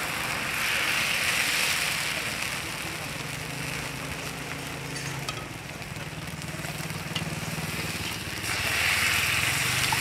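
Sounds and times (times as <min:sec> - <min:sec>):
batter pouring hiss: 0:00.0 - 0:04.9, 0:05.6 - 0:10.0
batter sizzling in pan: 0:00.0 - 0:10.0.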